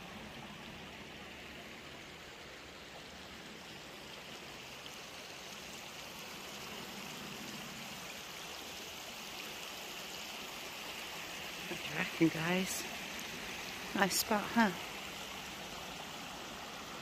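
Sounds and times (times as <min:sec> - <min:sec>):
river rushing over stones: 0:00.0 - 0:17.0.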